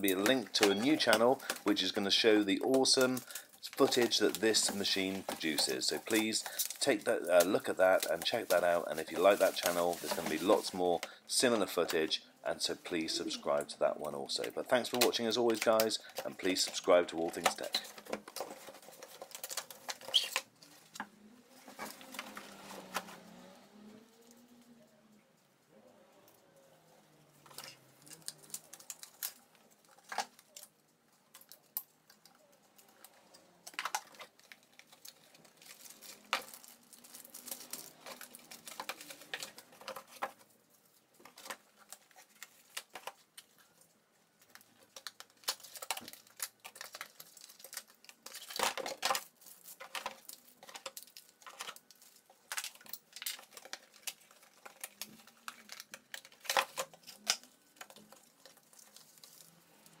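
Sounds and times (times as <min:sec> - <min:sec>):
paper rustling: 0:00.0 - 0:23.6, 0:32.8 - 1:00.0.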